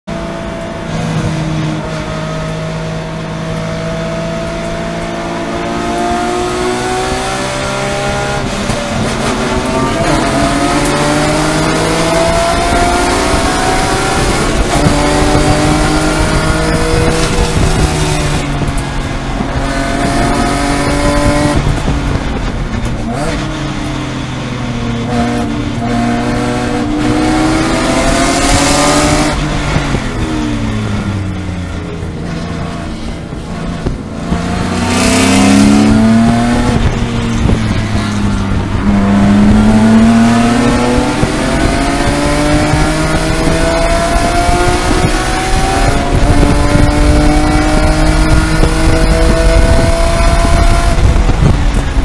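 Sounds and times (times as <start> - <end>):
race car engine revving: 0.1 - 52.0.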